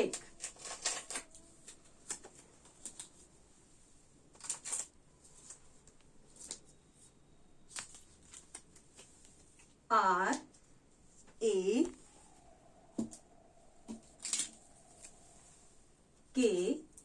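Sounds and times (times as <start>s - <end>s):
rustling of handling: 0.0s - 9.9s, 10.5s - 16.0s.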